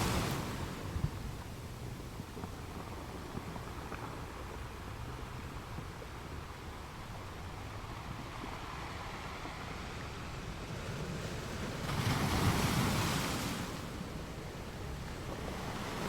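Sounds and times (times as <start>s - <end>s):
surf washing on beach: 0.0s - 16.0s.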